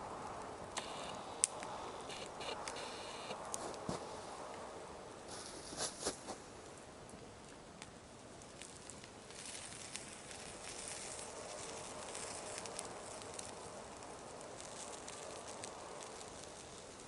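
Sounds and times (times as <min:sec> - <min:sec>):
campfire crackling and popping: 0:00.0 - 0:05.4, 0:06.1 - 0:17.0.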